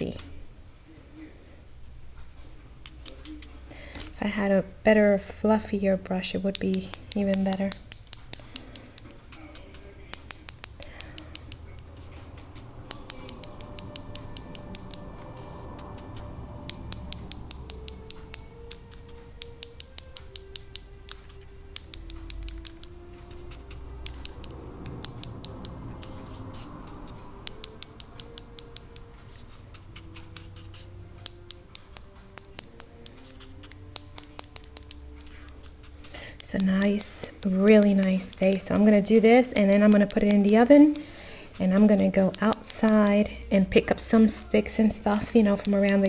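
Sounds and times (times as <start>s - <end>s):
soft music: 1.2s - 46.0s
brush tapping: 6.1s - 46.0s.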